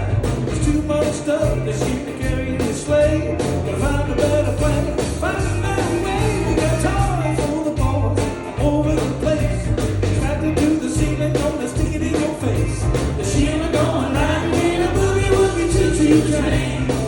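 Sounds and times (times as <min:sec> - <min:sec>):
country band playing: 0:00.0 - 0:17.0
person singing: 0:00.0 - 0:17.0.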